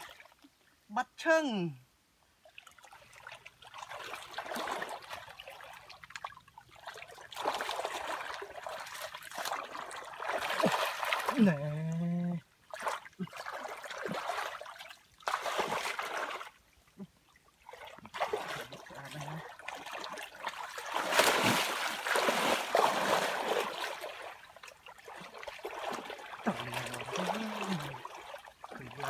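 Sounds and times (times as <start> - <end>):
hands splashing in muddy water: 2.8 - 11.6, 12.7 - 16.6, 17.6 - 29.0.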